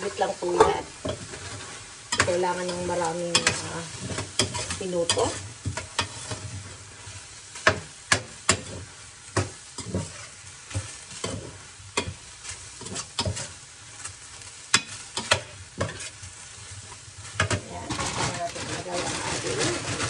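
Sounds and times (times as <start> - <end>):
chicken sizzling: 0.0 - 20.0
metal spoon scraping a skillet: 0.0 - 20.0.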